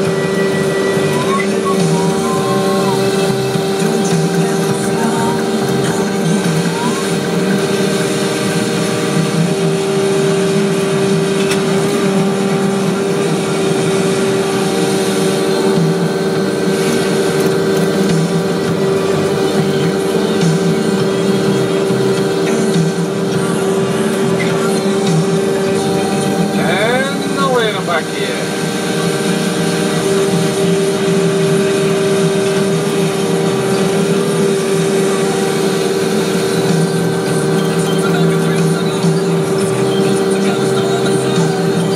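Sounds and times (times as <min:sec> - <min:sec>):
paving machine engine drone: 0:00.0 - 0:41.9
steady tone: 0:00.0 - 0:41.9.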